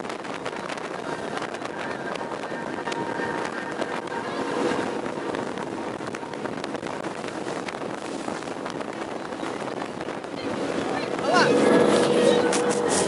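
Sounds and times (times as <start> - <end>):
motorboat engine running: 0.0 - 13.0
water rushing: 0.0 - 13.0
wind buffeting microphone: 0.0 - 13.0.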